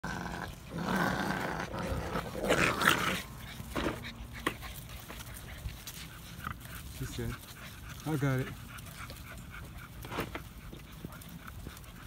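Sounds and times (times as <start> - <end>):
puppies growling: 0.0 - 12.0.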